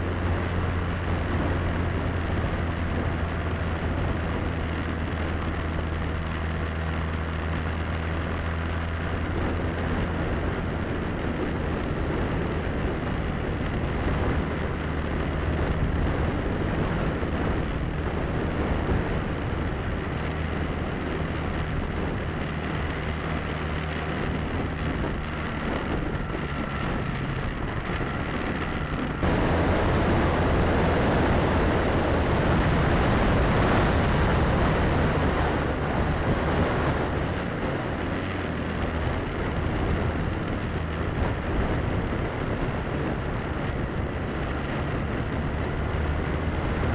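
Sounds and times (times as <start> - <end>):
motorcycle engine running: 0.0 - 46.9
wind rushing over microphone: 0.0 - 46.9.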